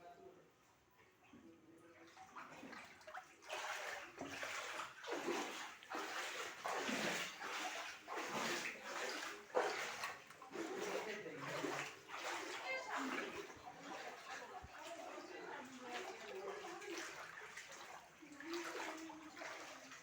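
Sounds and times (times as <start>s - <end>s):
floodwater sloshing and splashing: 1.2s - 20.0s.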